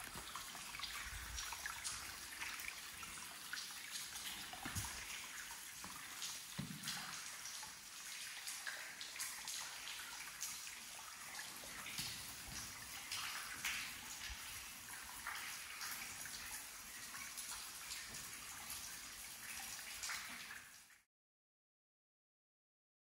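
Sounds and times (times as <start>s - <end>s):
running water: 0.0s - 20.9s.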